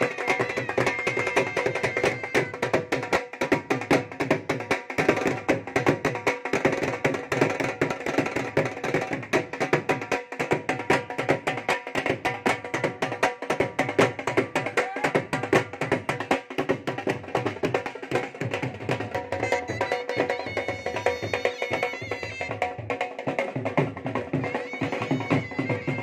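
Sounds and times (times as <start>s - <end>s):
drums beating fast rhythm: 0.0s - 26.0s.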